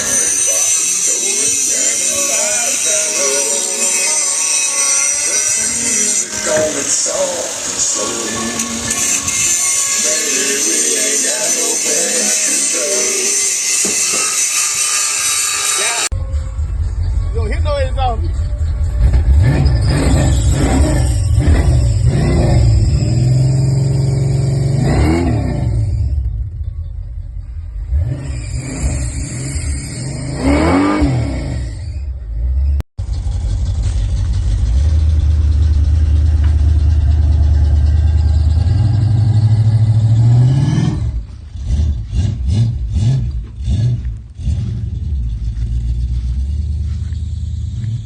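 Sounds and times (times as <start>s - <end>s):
car engine revving: 0.0s - 26.6s, 27.2s - 48.0s
car engine droning: 0.0s - 48.0s.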